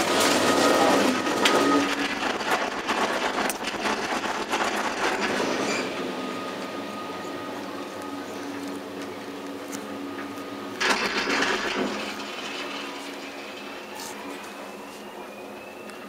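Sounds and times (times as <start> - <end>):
clatter of rollers and machinery: 0.0 - 16.0
steady machinery whine: 0.0 - 16.0.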